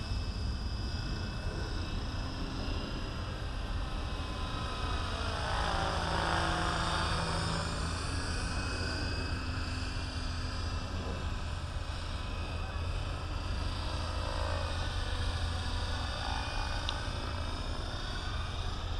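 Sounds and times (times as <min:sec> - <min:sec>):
rc helicopter whine: 0:00.0 - 0:18.9.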